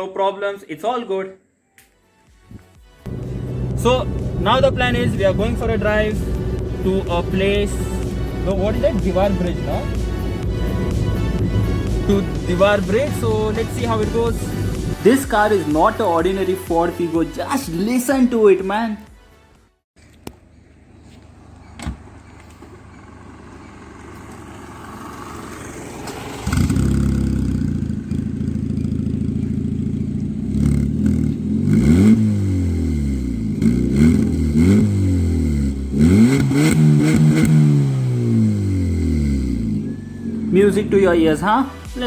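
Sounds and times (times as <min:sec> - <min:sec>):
car engine starting and revving: 0:03.1 - 0:16.6, 0:20.8 - 0:41.9.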